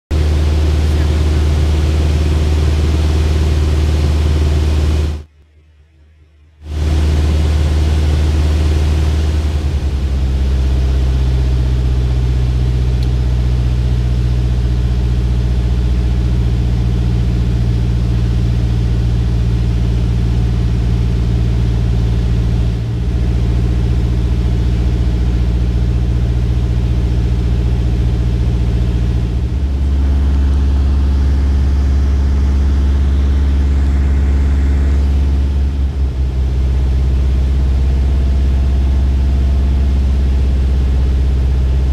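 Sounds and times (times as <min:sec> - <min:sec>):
light aircraft engine droning: 0:00.1 - 0:41.9.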